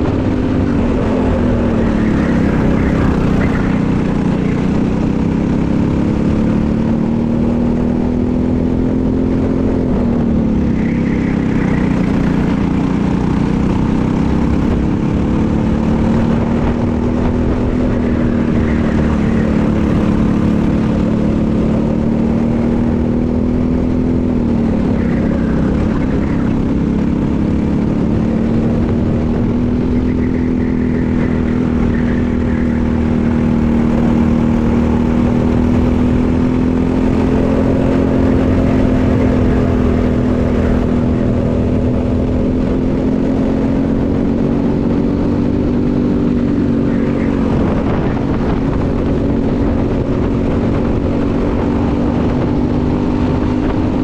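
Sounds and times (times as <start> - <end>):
kart engine at high revs: 0.0 - 54.0
wind rush on microphone: 0.0 - 54.0.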